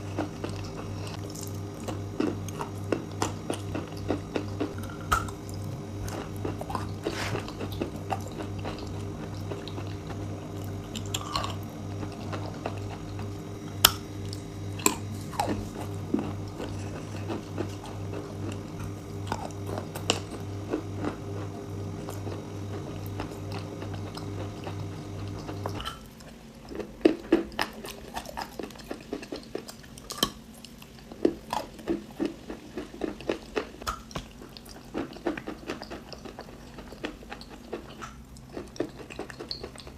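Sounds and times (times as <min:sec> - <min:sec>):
person chewing crunchy clay: 0:00.0 - 0:39.9
steady low hum: 0:00.0 - 0:39.9.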